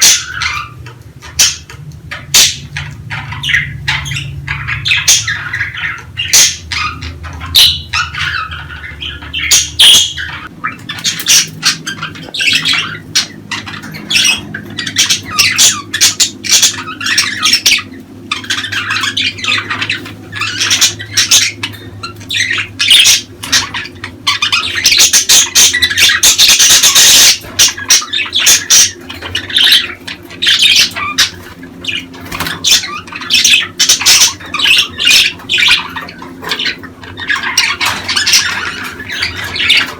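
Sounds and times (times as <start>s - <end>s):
budgies chattering: 0.0s - 39.9s.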